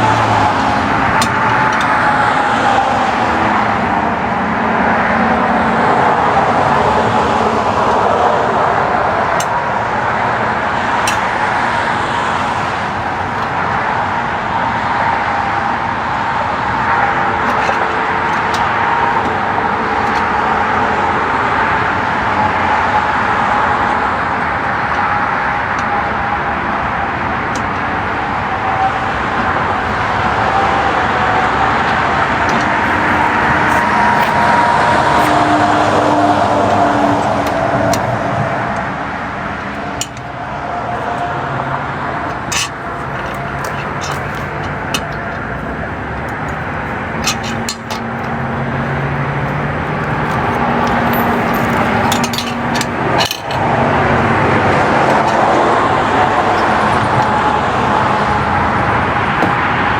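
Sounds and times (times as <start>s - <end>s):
motor vehicle hum: 0.0s - 59.9s.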